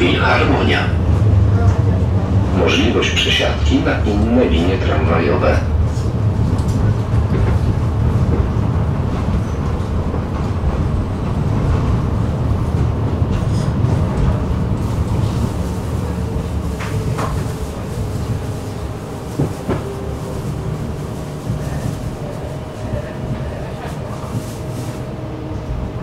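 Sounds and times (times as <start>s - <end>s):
tram wheels rumbling on rails: 0.0s - 26.0s.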